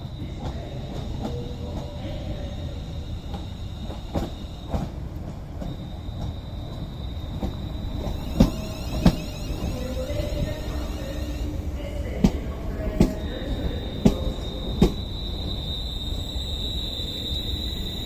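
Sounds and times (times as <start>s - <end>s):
trains rumbling low: 0.0s - 18.0s.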